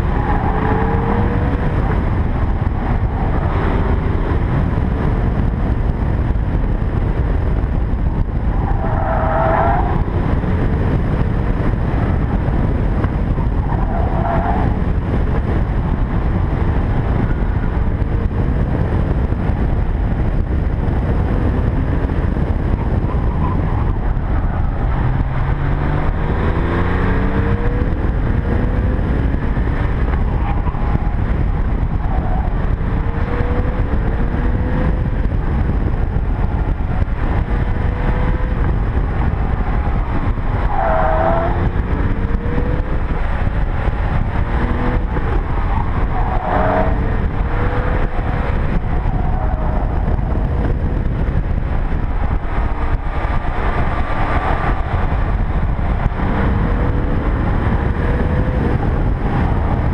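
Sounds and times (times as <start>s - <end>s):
car engine accelerating and shifting: 0.0s - 59.9s
road rumble: 0.0s - 59.9s
wind noise: 0.0s - 59.9s.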